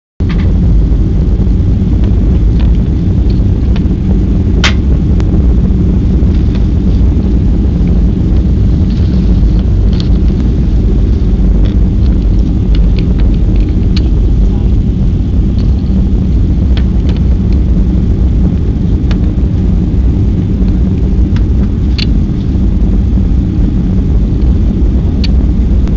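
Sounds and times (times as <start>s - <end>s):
airplane cabin engine rumble: 0.2s - 25.9s.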